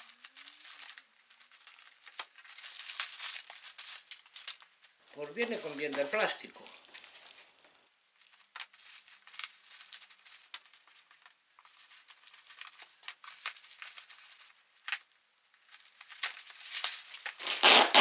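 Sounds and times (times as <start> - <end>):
plastic bag crinkling and tearing: 0.0 - 18.0.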